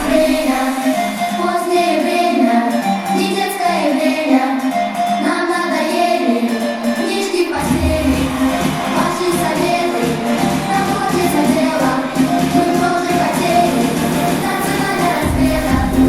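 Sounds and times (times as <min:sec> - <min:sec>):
high voices singing: 0:00.0 - 0:16.0.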